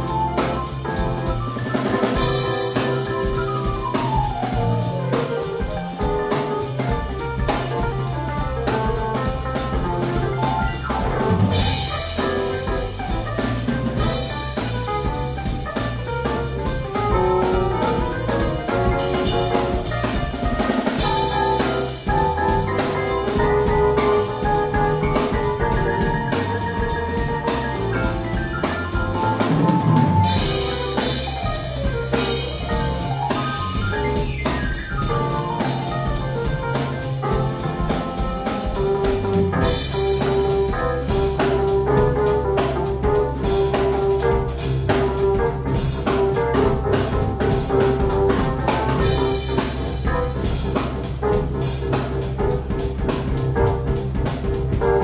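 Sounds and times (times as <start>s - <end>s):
drum kit beat: 0.0s - 55.0s
keyboards: 0.0s - 55.0s
upright bass: 0.0s - 55.0s.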